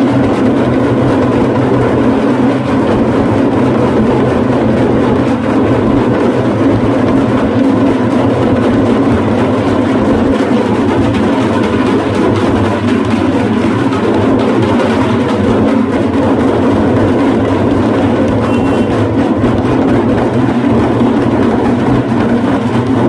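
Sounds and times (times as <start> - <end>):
pellet drums rattling: 0.0 - 23.0.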